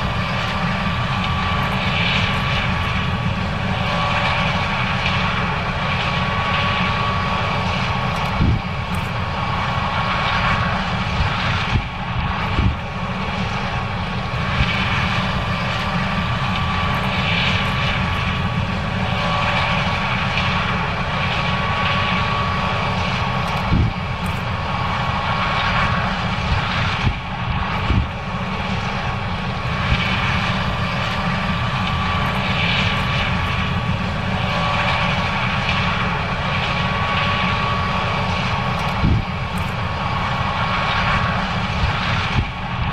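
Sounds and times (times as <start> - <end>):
combine harvester engine droning: 0.0 - 42.9
faint steady whine: 0.0 - 42.9.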